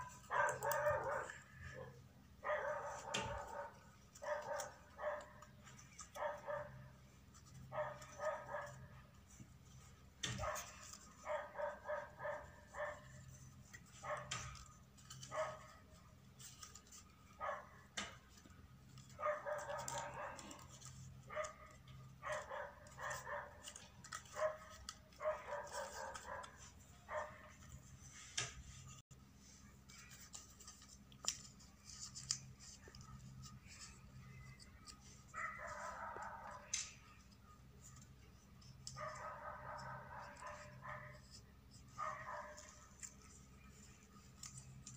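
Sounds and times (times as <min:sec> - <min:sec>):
paper crinkling: 0:00.0 - 0:44.9.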